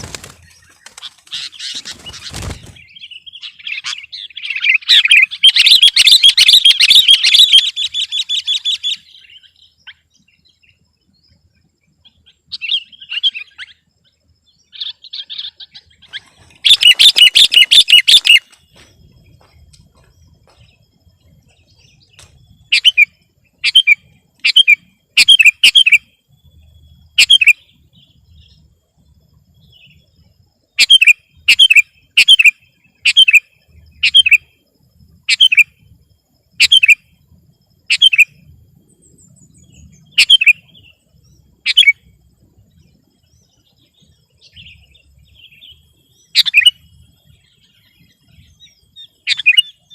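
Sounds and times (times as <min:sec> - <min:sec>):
bulbul singing: 0:00.0 - 0:49.9.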